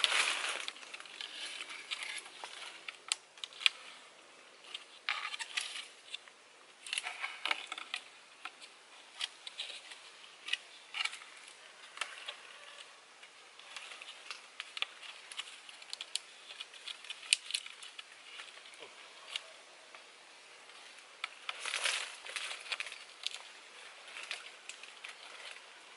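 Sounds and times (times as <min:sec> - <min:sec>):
binding rustling and clicking: 0:00.0 - 0:25.9.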